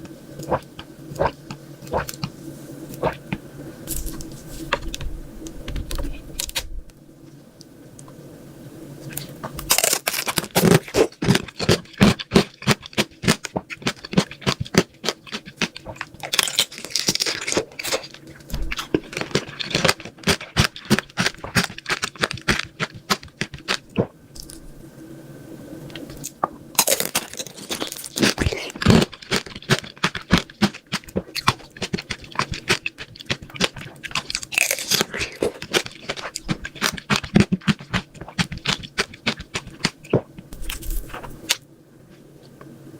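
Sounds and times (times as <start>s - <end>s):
crunchy eating of hard sweets: 0.0s - 6.7s, 9.0s - 24.8s, 26.0s - 42.7s.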